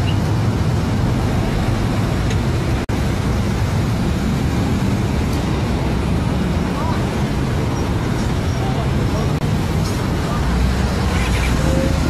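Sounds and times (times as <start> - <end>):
engine and traffic noise: 0.0 - 12.0.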